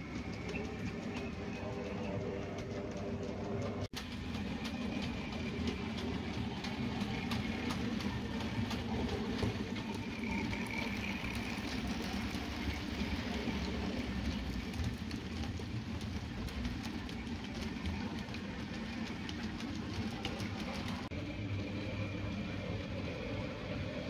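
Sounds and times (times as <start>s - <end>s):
wagons clicking over rail joints: 0.0s - 24.0s
model train motor hum: 4.0s - 24.0s.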